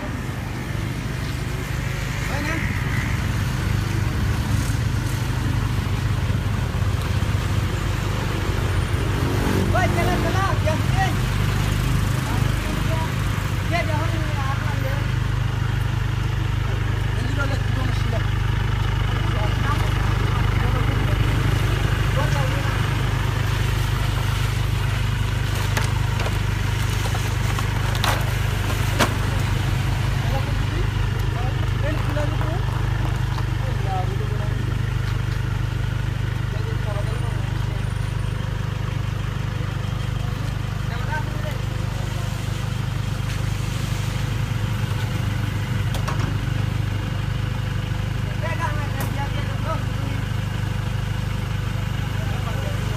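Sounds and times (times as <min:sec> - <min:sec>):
vehicle engine idling: 0:00.0 - 0:52.9.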